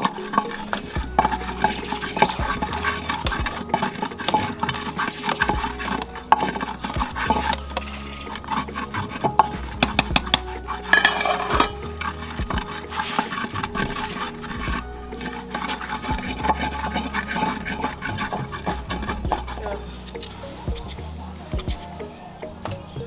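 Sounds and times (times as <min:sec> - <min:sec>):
wooden pestle grinding in clay bowl: 0:00.0 - 0:19.8.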